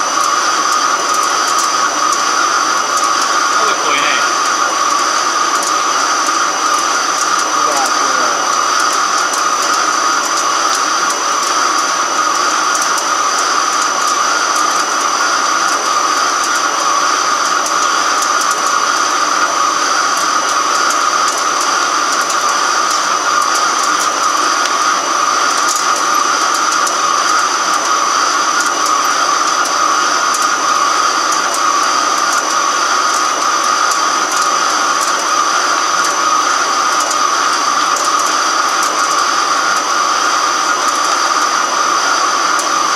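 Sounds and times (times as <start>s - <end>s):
lathe machining whir: 0.0s - 42.9s
thin high whine: 0.0s - 42.9s.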